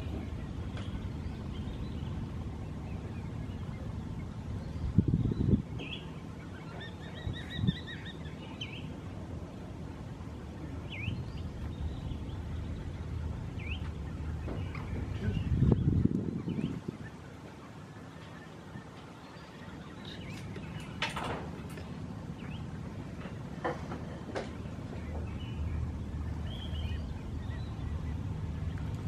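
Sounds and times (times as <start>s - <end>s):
whistled bird calls: 0.0s - 9.0s, 10.5s - 21.2s, 25.0s - 28.8s
wind rumble on microphone: 0.0s - 29.0s.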